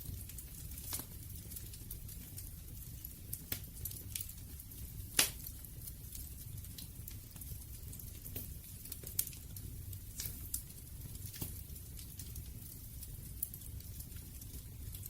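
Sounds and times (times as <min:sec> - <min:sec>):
burning wood crackling and popping: 0:00.0 - 0:15.0
campfire flame rumble: 0:00.0 - 0:15.0.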